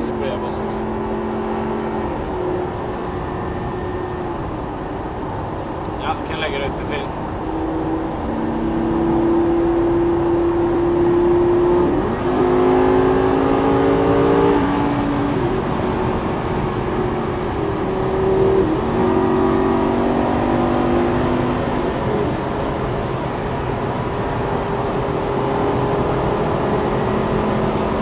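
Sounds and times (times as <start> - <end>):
car engine accelerating: 0.0 - 28.0.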